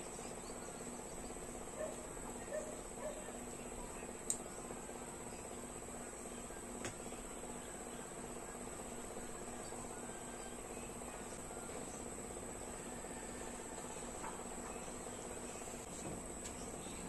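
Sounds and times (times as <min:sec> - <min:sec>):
faint pulsing hum: 0:00.0 - 0:17.0.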